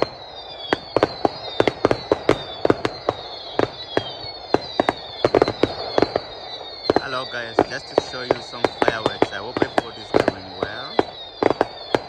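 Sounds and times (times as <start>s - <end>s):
firework whistles gliding down: 0.0s - 12.0s
fireworks bangs and cracks: 0.0s - 12.0s.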